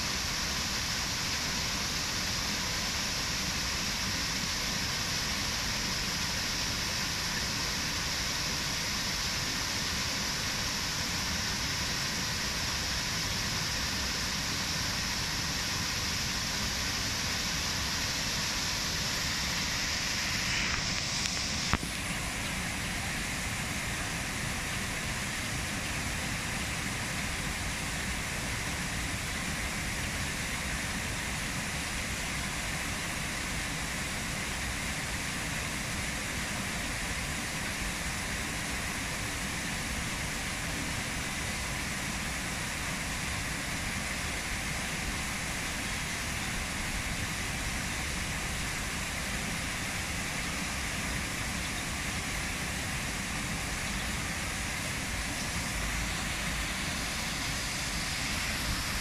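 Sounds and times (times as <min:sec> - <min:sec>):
waterfall splashing over rocks: 0:00.0 - 0:59.0.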